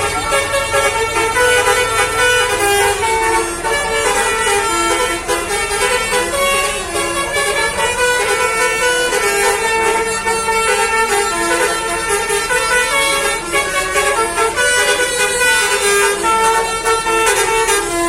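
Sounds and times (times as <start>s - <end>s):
bus horn playing melody: 0.0s - 18.0s.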